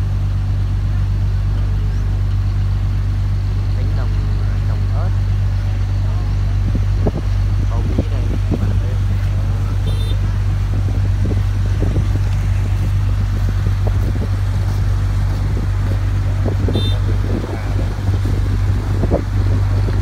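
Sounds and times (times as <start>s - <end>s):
ferry engine droning: 0.0s - 20.0s.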